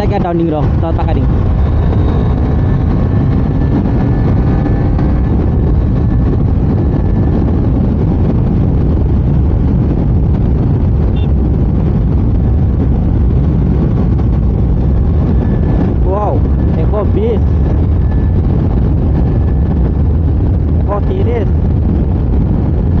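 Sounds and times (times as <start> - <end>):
motorcycle engine running: 0.0 - 23.0
wind rumble: 0.0 - 23.0.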